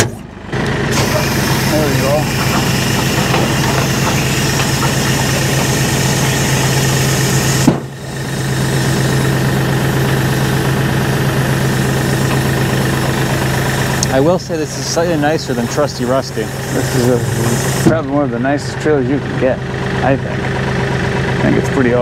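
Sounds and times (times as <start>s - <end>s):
hydraulic pump humming: 0.0s - 22.0s.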